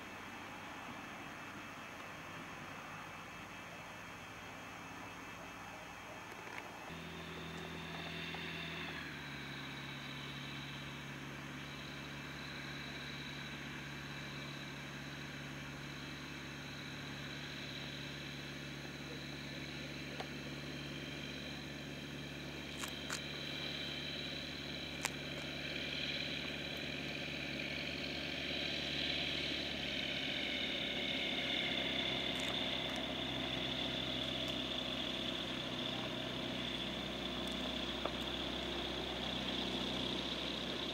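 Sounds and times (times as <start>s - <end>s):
propeller aircraft engine running: 0.0s - 40.9s.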